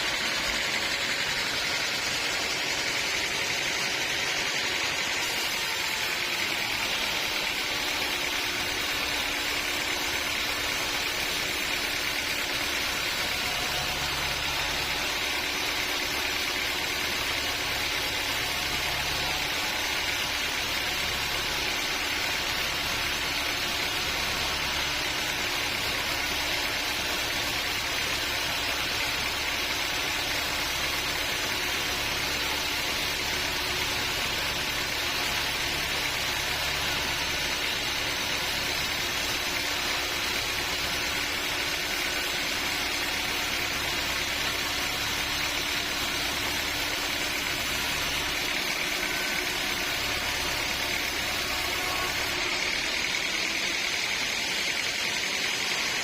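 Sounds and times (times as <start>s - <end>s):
sawmill machinery hum and hiss: 0.0s - 56.0s.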